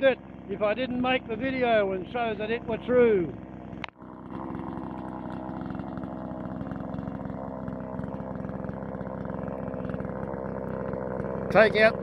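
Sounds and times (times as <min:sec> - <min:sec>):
chainsaw idling: 0:00.0 - 0:12.0.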